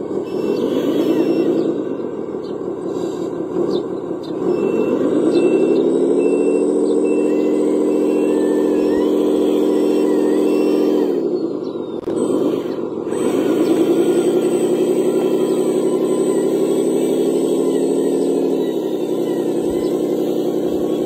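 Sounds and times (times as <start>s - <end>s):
radio-controlled vehicle engine revving: 0.0s - 21.0s.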